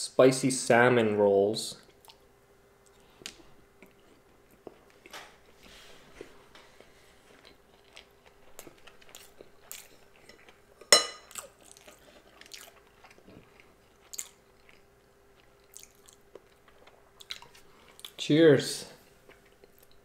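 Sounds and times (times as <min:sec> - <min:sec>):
chewing sushi: 0:01.8 - 0:18.2, 0:19.2 - 0:20.0.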